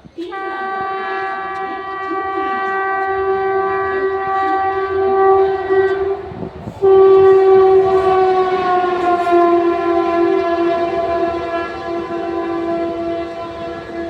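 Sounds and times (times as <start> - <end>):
train horn blasts: 0.0 - 14.0.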